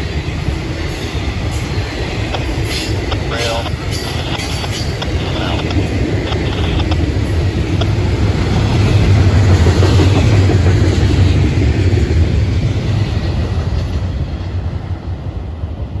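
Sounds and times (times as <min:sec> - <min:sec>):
train wheels rumbling and clattering: 0:00.0 - 0:16.0.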